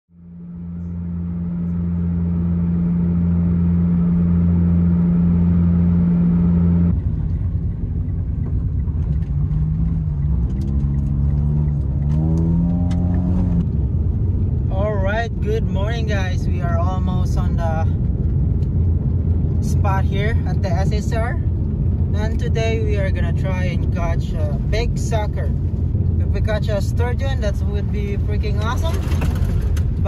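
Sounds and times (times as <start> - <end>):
car engine and road drone: 0.1 - 30.0.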